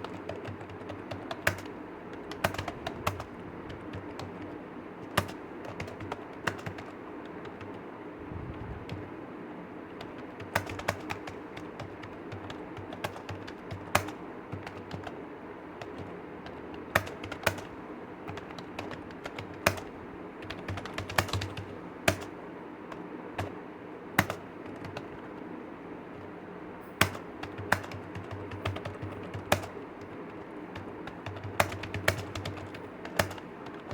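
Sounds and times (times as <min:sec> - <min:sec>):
keyboard typing clicks: 0:00.0 - 0:07.8, 0:08.5 - 0:09.1, 0:10.0 - 0:15.2, 0:15.8 - 0:23.6, 0:24.2 - 0:25.4, 0:26.1 - 0:33.9
low background hum: 0:00.0 - 0:33.9.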